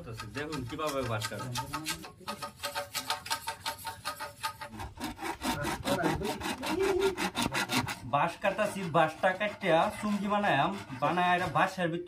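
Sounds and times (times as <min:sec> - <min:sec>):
hand saw cutting bamboo: 0:00.0 - 0:11.8.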